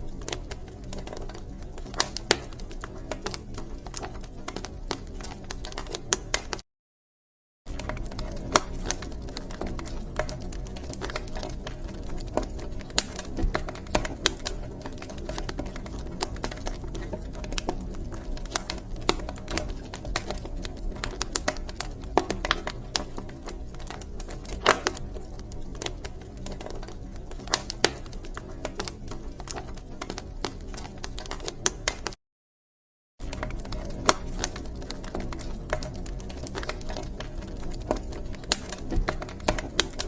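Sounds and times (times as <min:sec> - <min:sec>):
wood fire crackling: 0:00.0 - 0:06.6, 0:07.7 - 0:32.2, 0:33.2 - 0:40.0.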